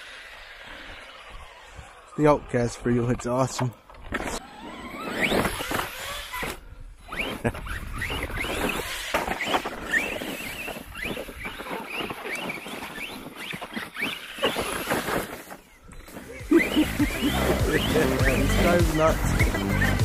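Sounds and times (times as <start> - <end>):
electric motors whining: 0.0 - 20.0
tyres churning loose dirt: 0.0 - 20.0.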